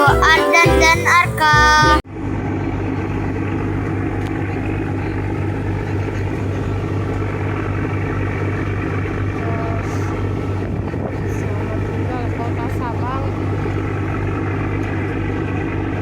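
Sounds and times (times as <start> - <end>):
ship engine drone: 0.0 - 16.0.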